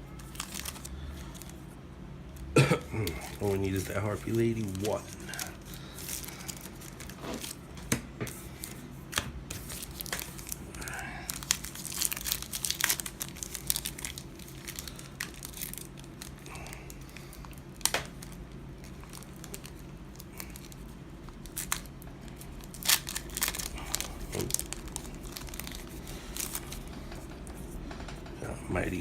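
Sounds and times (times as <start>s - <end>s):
foil pack crinkling and tearing: 0.1s - 1.7s, 2.4s - 27.2s.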